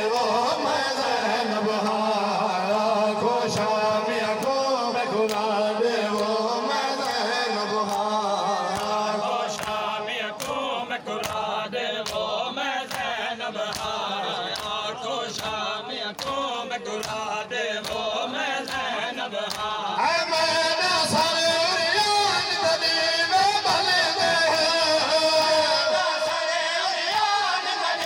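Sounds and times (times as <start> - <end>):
men chanting together: 0.0 - 28.0.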